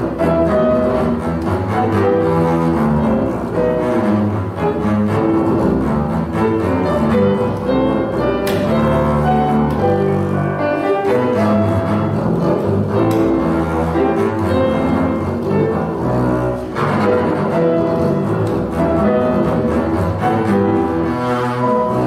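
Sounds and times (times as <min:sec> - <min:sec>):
bowed double bass melody: 0:00.0 - 0:22.0
grand piano accompaniment: 0:00.0 - 0:22.0.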